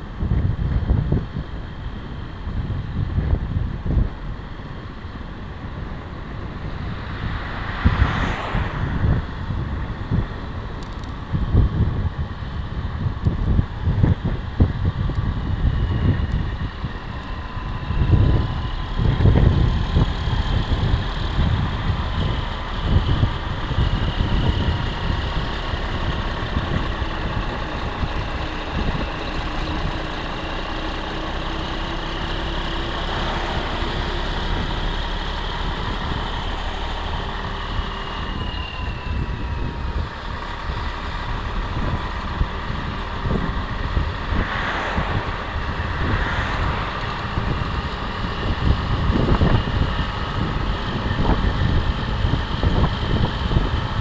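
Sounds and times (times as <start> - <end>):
diesel truck engine running: 0.0 - 54.0
wind rushing over microphone: 0.0 - 54.0.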